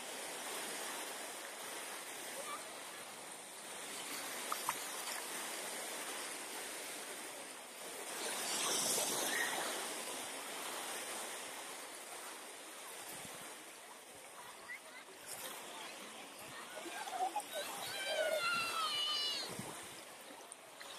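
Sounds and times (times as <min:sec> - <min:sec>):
waves breaking on sandy beach: 0:00.0 - 0:20.9.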